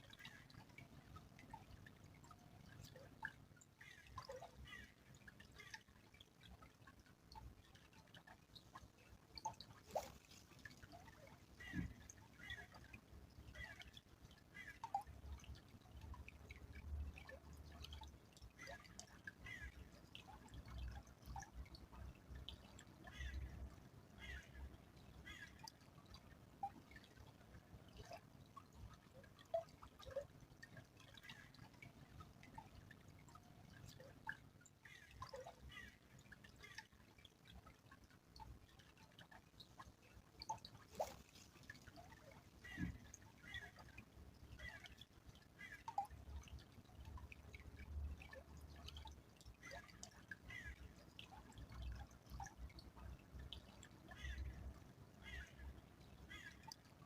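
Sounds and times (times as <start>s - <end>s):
stream trickling: 0.0s - 57.0s
water drips and plinks: 0.0s - 57.0s.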